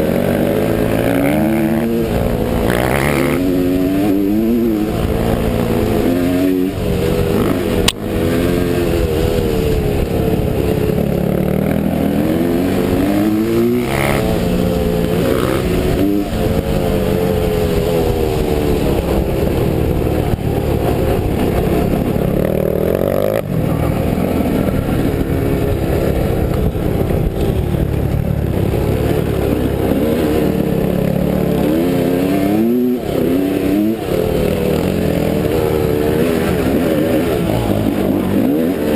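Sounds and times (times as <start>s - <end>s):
off-road motorcycle engine revving: 0.0s - 38.9s.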